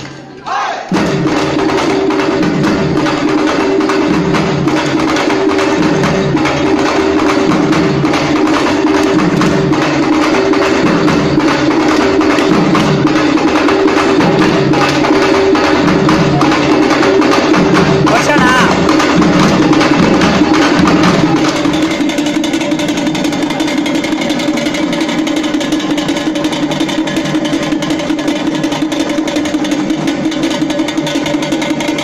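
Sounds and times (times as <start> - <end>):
drums beating: 0.0 - 32.0.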